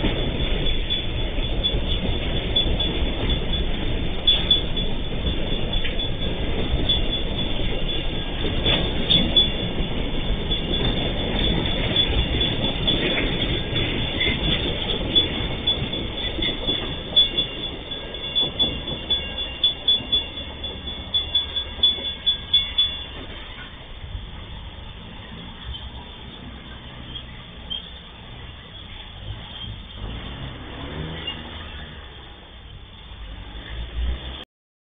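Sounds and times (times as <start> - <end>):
high-pitched wheel squeal: 0.0 - 34.4
train wheels rumbling: 0.0 - 34.4
wheels clicking over rail joints: 0.0 - 34.4.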